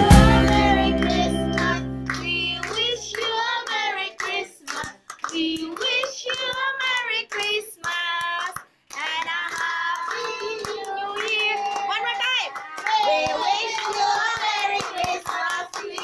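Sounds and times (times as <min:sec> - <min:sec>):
group singing together: 0:00.0 - 0:07.6, 0:09.0 - 0:11.9, 0:12.7 - 0:16.0
people clapping hands: 0:00.0 - 0:16.0.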